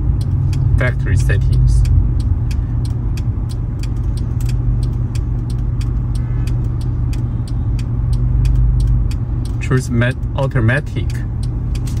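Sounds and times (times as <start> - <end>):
car engine idling: 0.0 - 12.0
light irregular clicks: 0.1 - 12.0.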